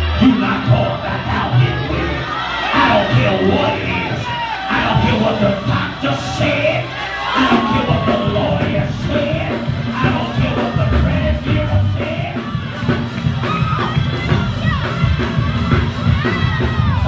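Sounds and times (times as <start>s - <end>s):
church praise music with beat: 0.0s - 17.0s
congregation singing and shouting: 0.0s - 17.0s.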